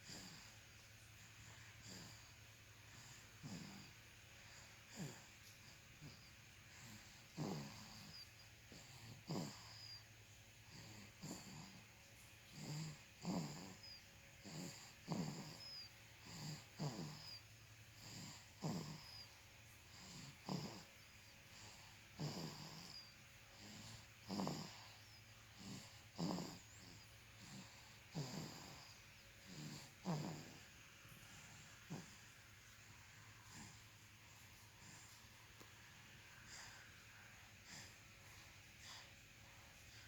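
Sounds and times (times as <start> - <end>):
baby snoring: 0.0 - 40.0.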